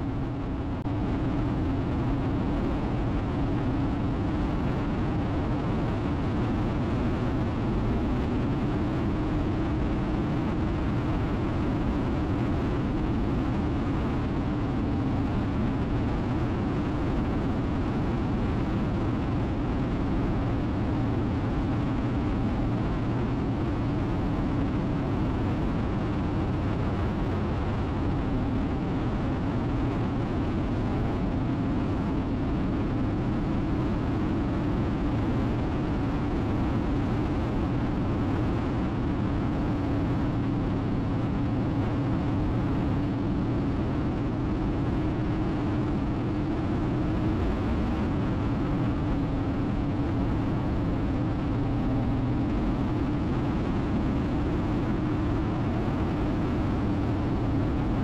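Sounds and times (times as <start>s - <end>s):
wind and road rush: 0.0s - 58.0s.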